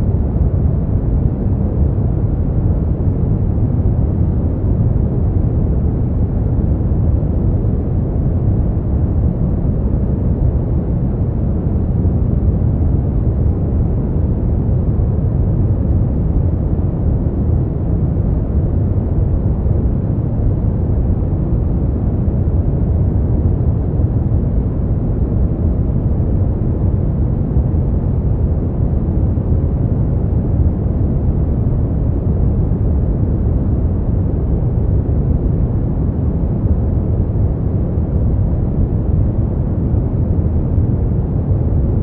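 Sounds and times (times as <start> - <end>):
brown noise rumbling hiss: 0.0 - 42.0.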